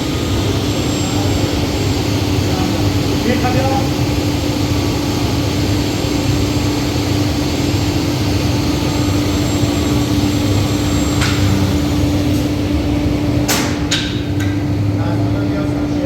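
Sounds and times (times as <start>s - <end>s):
motor drone: 0.0s - 16.0s.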